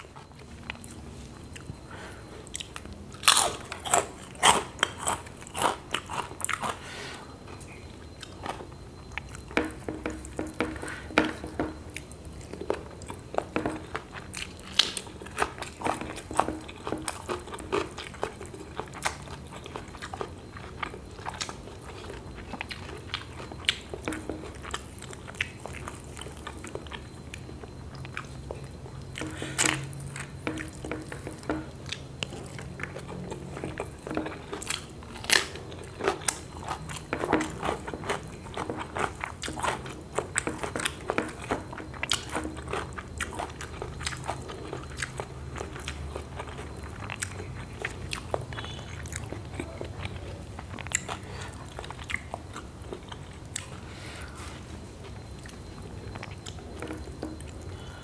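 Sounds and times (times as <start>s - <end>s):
faint low hum: 0.0s - 58.0s
person chewing food: 0.0s - 58.0s.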